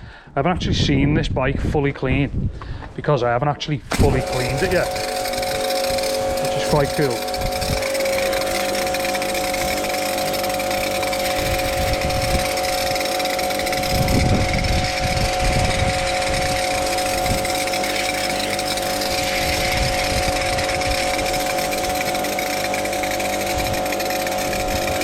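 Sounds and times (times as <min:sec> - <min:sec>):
pressure washer motor whine: 0:03.9 - 0:25.0
water spraying: 0:03.9 - 0:25.0.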